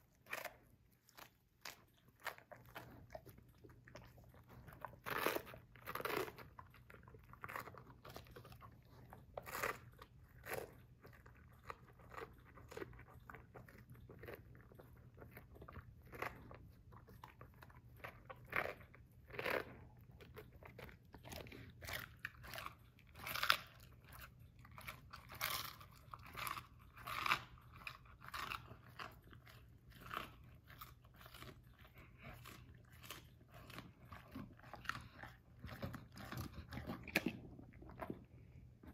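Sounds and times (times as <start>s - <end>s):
dog crunching lettuce: 0.0s - 38.9s.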